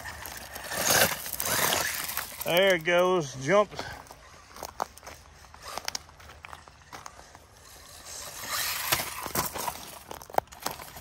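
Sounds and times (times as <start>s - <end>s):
rc car tyres crunching gravel: 0.0s - 11.0s.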